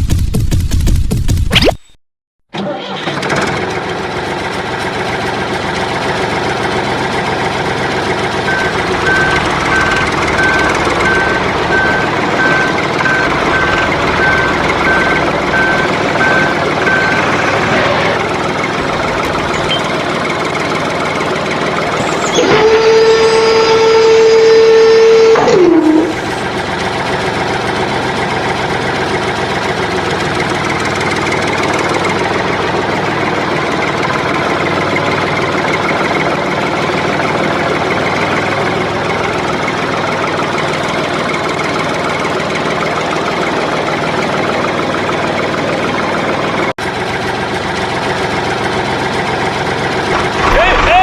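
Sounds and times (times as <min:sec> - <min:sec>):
engine running steadily: 0:03.0 - 0:51.0.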